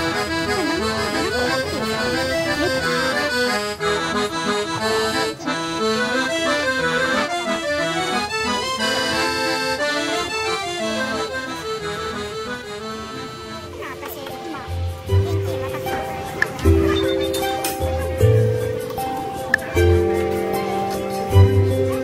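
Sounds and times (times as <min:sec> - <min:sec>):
accordion melody: 0:00.0 - 0:22.0.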